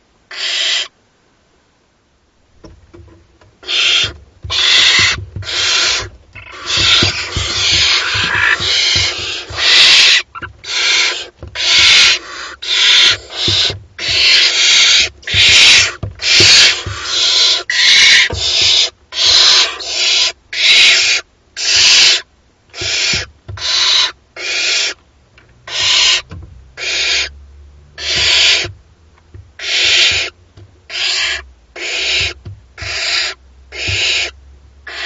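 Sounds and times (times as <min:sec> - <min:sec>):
owl chicks hissing begging calls: 0:00.3 - 0:01.0, 0:03.6 - 0:25.0, 0:25.7 - 0:27.4, 0:28.0 - 0:28.7, 0:29.6 - 0:35.0.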